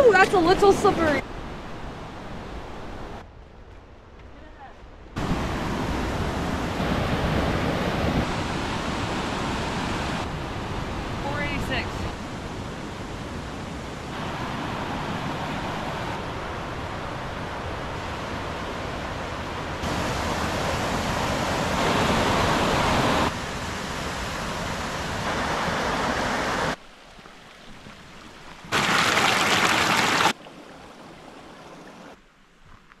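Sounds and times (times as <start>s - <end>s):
rushing mountain stream water: 0.0s - 3.2s, 5.2s - 32.2s.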